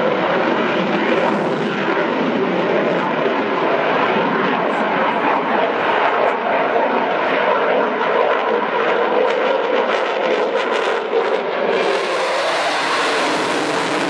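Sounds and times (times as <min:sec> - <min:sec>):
loud jet engine noise: 0:00.0 - 0:14.0.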